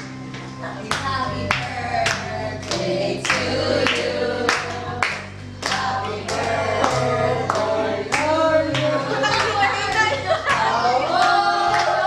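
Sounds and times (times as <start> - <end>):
song with singing: 0.7 - 12.0.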